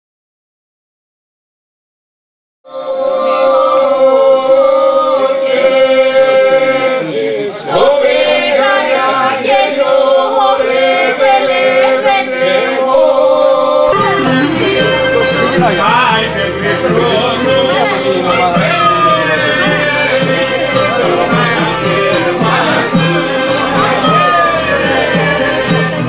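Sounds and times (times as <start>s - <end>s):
group singing polyphonic song: 2.7s - 26.0s.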